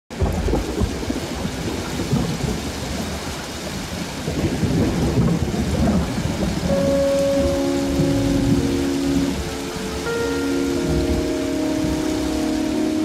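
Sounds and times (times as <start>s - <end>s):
low thunder rumbling: 0.1s - 13.0s
steady rain: 0.1s - 13.0s.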